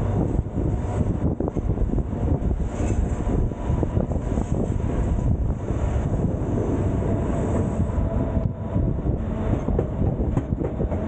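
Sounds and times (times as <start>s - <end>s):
passenger car rumbling on track: 0.0s - 11.0s.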